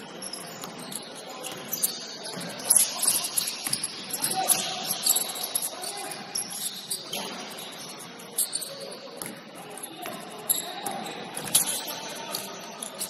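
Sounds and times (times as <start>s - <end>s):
gym hall background noise: 0.0s - 13.0s
shoes squeaking on gym court: 0.0s - 13.0s.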